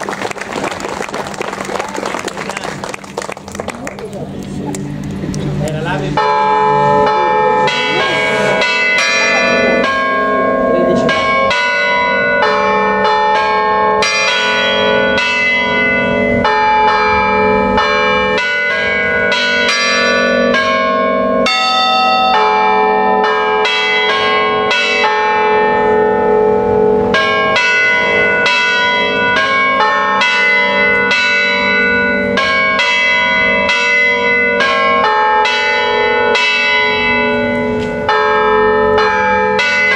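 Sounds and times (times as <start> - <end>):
church bells playing a melody: 3.5 - 39.9.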